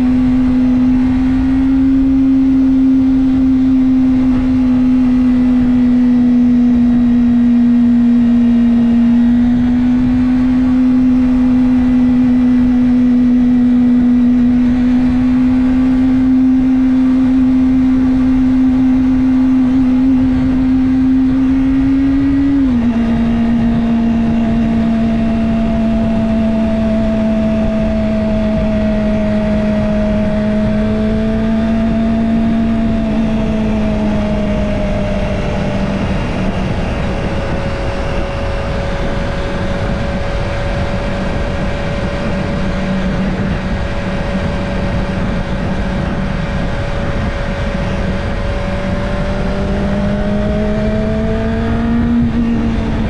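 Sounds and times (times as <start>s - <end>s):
motorcycle engine at high revs: 0.0s - 53.0s
road and wind noise: 0.0s - 53.0s.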